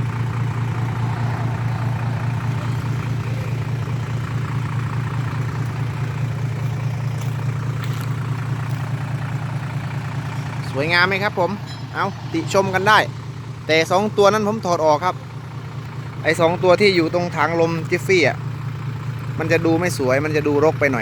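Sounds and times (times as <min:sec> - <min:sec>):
truck engine low hum: 0:00.0 - 0:21.0.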